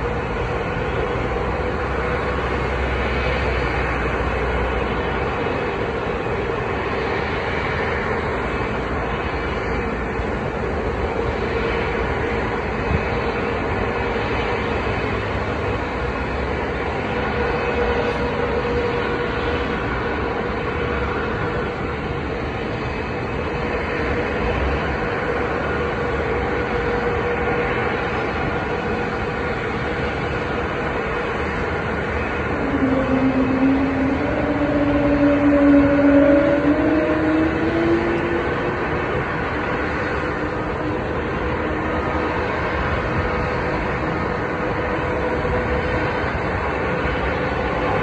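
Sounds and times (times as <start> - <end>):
jet engines idling: 0.0 - 48.0.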